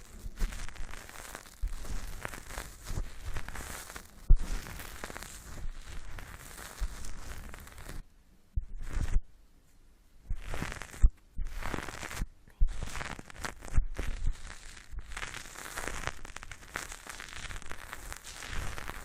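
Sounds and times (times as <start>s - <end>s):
close crackling and rubbing: 0.0s - 8.0s, 8.6s - 9.3s, 10.2s - 19.0s.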